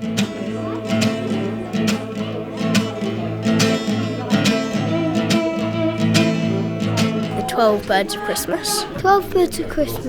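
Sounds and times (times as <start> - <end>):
strummed acoustic guitar music: 0.0 - 9.8.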